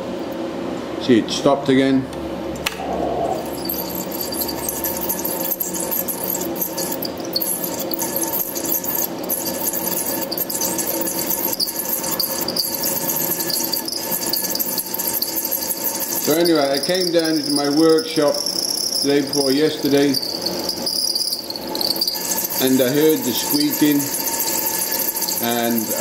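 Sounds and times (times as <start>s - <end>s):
cooling fan humming: 0.0s - 26.0s
fan squeaking and chirping: 2.3s - 26.0s.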